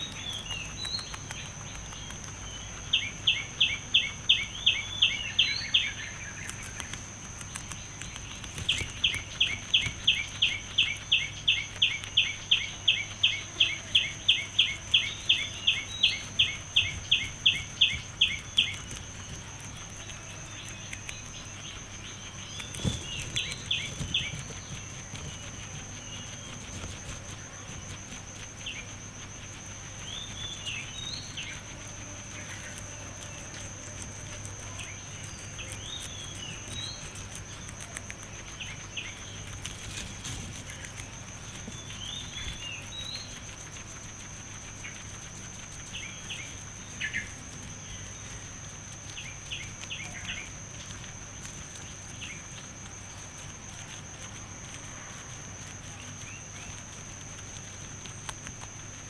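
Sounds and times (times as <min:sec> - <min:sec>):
guinea pig chewing grass: 0:00.0 - 0:59.0
high insect trill: 0:00.0 - 0:59.0.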